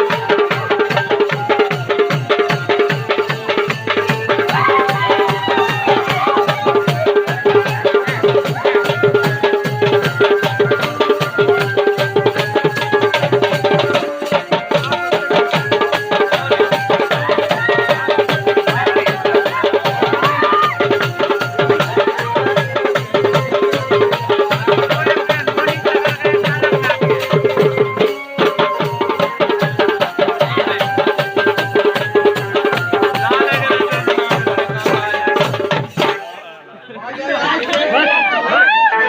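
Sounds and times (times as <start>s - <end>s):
fast driving drumming: 0.0s - 36.4s.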